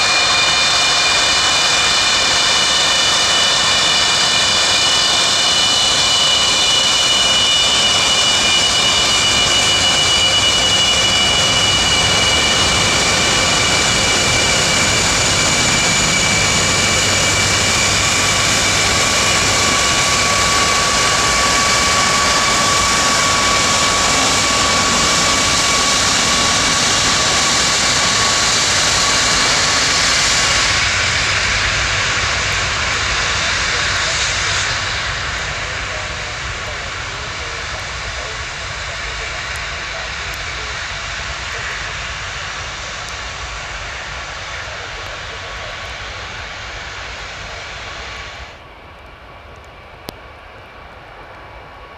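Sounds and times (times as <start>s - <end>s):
aircraft engines running: 0.0s - 51.9s.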